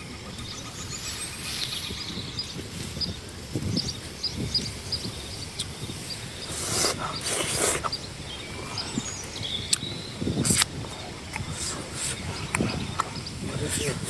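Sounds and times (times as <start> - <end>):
high chirps of insects or birds: 0.0 - 14.0.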